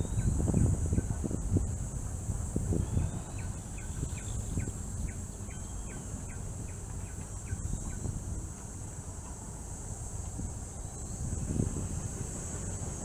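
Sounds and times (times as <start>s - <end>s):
high-pitched insect drone: 0.0s - 13.0s
wind rumbling on microphone: 0.0s - 13.0s.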